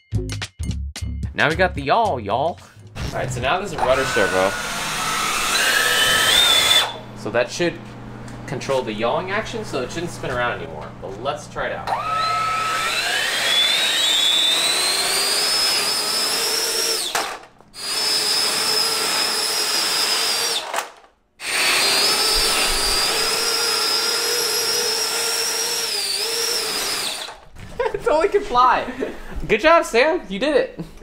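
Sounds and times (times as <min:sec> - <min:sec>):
electric ducted fans whining: 0:03.3 - 0:30.2.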